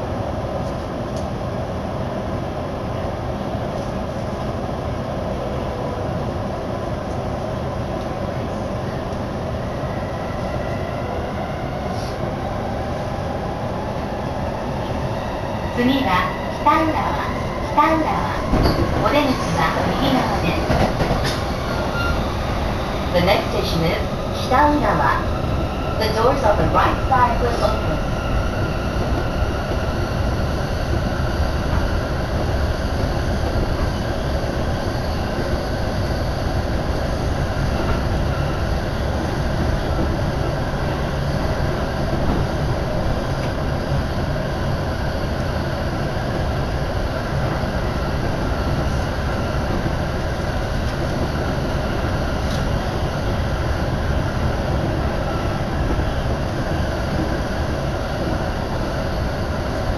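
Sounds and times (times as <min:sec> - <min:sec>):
train rumble inside car: 0:00.0 - 0:01.8, 0:02.4 - 0:09.4, 0:15.8 - 0:59.9.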